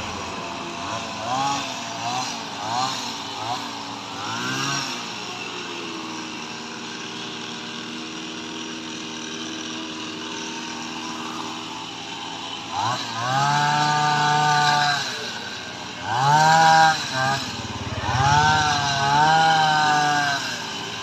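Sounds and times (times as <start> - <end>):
hedge trimmer engine revving: 0.0 - 21.0.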